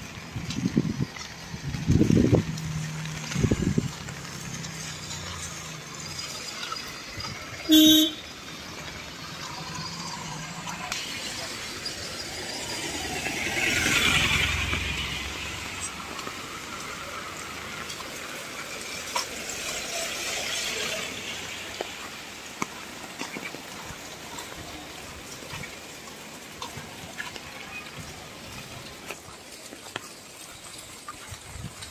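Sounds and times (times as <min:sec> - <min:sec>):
rain falling: 0:00.0 - 0:31.9
water drips: 0:00.0 - 0:31.9.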